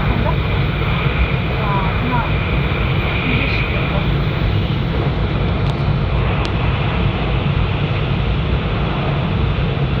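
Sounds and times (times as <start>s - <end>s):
train cabin rumble and hiss: 0.0s - 10.0s.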